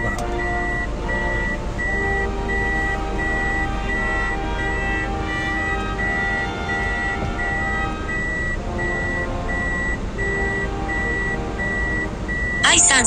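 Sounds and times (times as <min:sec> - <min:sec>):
music: 0:00.0 - 0:13.0
reversing warning beeps: 0:00.0 - 0:13.0.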